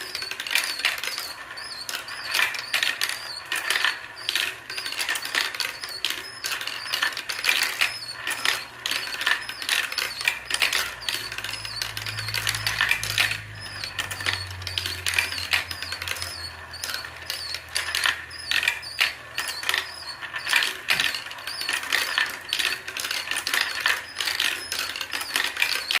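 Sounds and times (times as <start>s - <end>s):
marbles clicking on a marble run: 0.0s - 26.0s.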